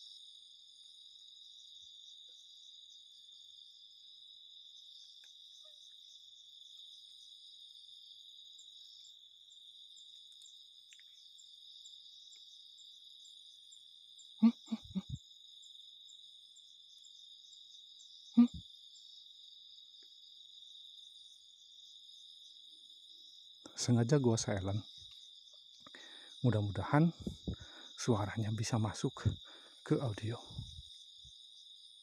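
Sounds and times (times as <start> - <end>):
crickets and insects chirring: 0.0 - 32.0.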